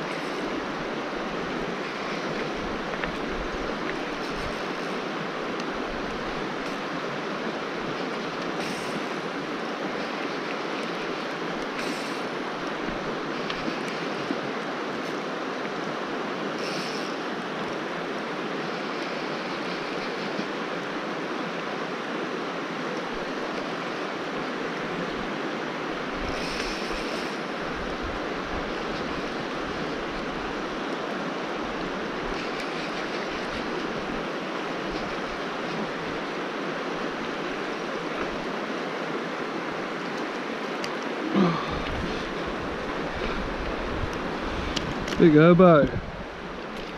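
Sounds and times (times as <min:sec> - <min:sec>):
river rushing over gravel: 0:00.0 - 0:46.9.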